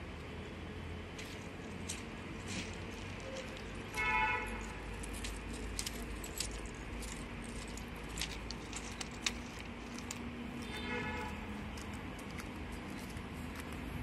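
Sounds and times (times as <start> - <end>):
low rumble with faint hum: 0.0 - 14.0.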